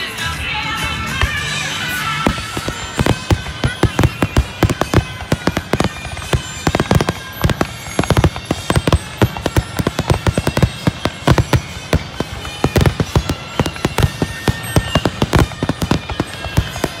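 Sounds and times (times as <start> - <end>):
fireworks bangs: 1.0 - 17.0.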